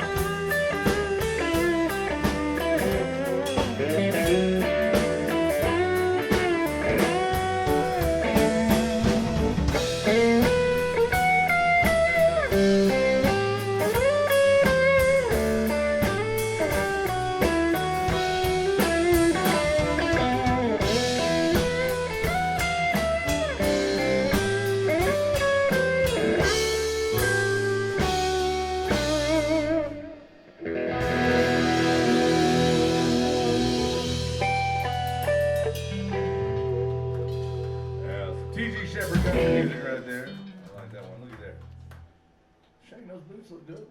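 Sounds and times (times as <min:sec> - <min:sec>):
electric guitar bending notes: 0:00.0 - 0:40.7
live band playing: 0:00.0 - 0:42.0.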